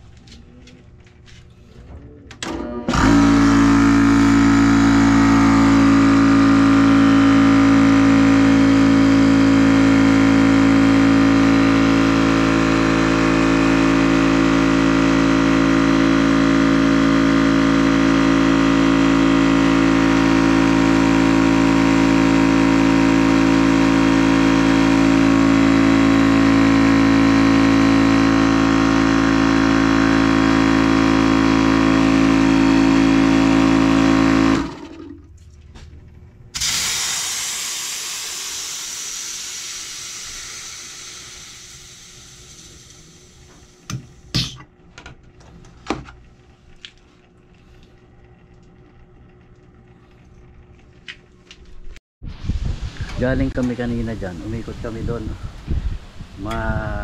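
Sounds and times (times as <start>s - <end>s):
air compressor humming: 0.0s - 52.0s.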